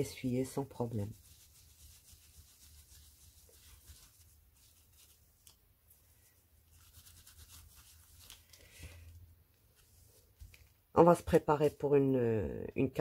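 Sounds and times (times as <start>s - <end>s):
tissue rubbing on plastic sheet: 0.0s - 8.7s, 9.6s - 12.1s.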